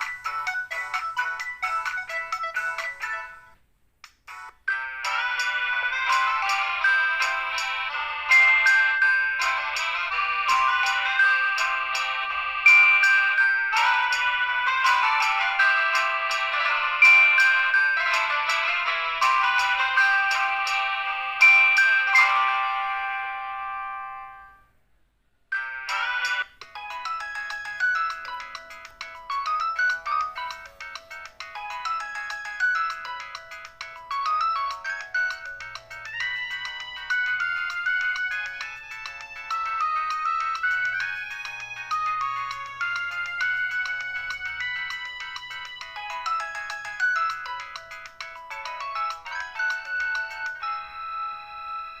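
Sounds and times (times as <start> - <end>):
synth ringtone melody: 0.0 - 3.6, 4.3 - 24.7, 25.5 - 52.0.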